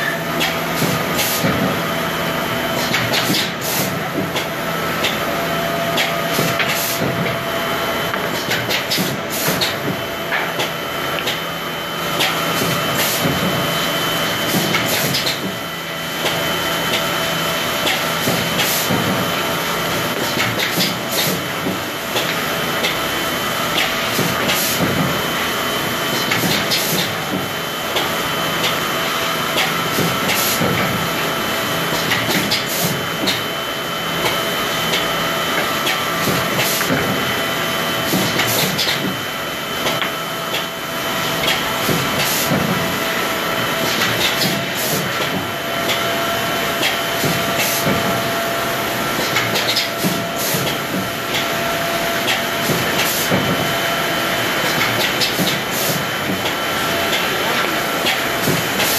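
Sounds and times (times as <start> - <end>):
woodworking machinery running: 0.0 - 58.9.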